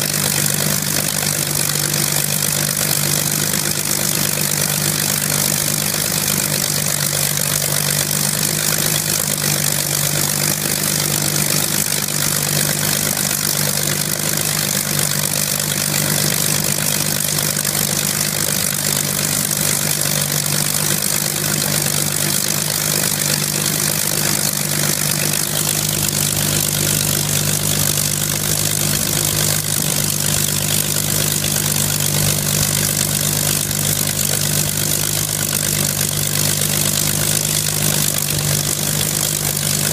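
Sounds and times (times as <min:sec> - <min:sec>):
aero engine idling: 0:00.0 - 0:39.9.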